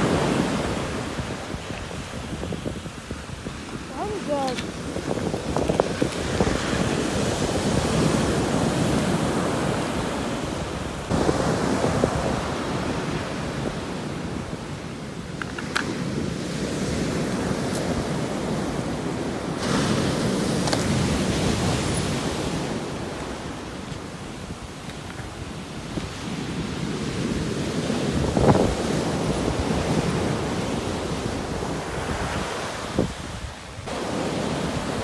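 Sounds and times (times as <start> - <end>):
sea waves breaking on shore: 0.0 - 35.0.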